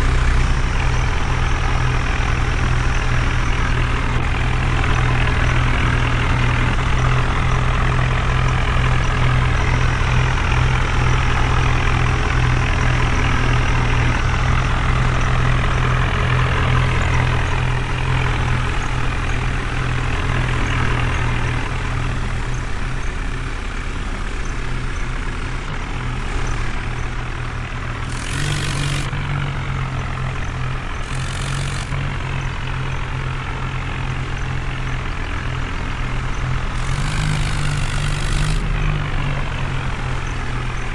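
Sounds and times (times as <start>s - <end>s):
heavy truck engine running: 0.0s - 40.9s.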